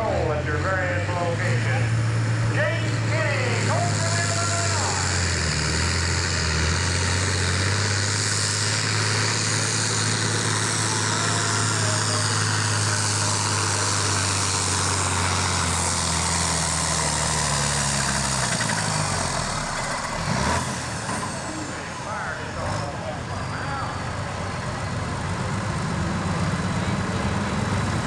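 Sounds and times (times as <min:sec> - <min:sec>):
diesel tractor engine droning: 0:00.0 - 0:28.0.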